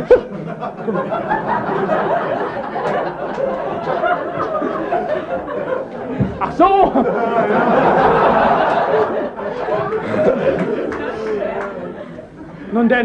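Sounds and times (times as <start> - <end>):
audience laughing: 0.0 - 12.7.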